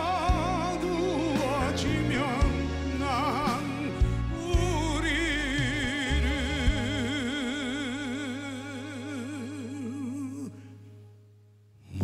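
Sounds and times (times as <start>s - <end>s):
man singing long note with vibrato: 0.0s - 10.8s.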